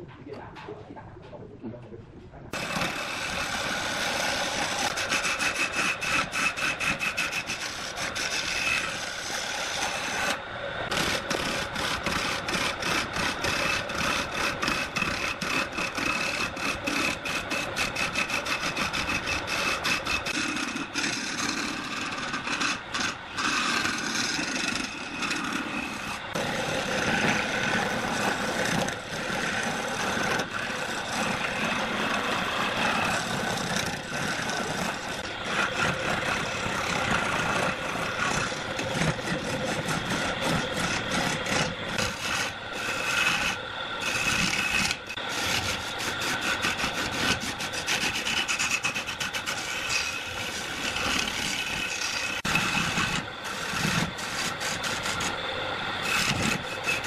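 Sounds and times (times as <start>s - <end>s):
wood lathe gouge scraping wood: 2.5s - 57.0s.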